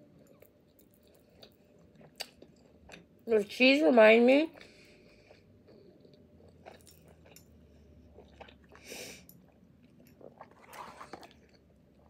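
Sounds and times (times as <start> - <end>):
person chewing: 0.0 - 3.2, 4.6 - 12.0.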